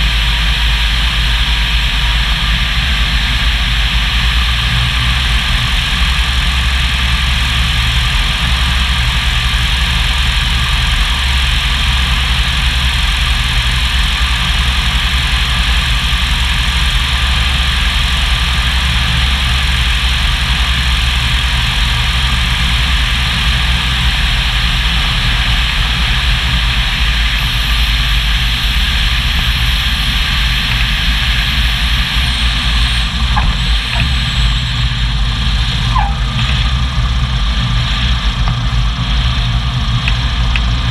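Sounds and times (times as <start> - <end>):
propeller plane engine running: 0.0 - 40.9.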